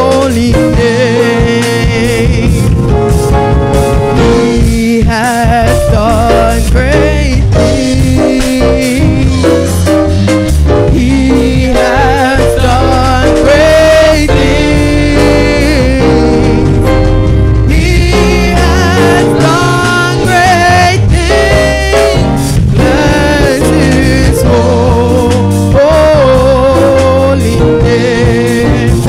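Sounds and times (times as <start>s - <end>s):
person singing with vibrato: 0.0s - 2.9s, 4.2s - 9.9s, 10.6s - 29.0s
gospel band with bass line: 0.0s - 29.0s.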